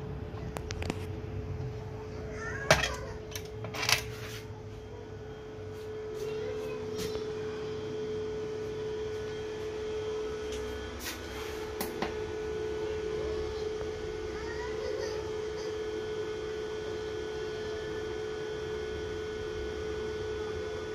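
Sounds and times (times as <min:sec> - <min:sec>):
electrical hum: 0:00.0 - 0:20.9.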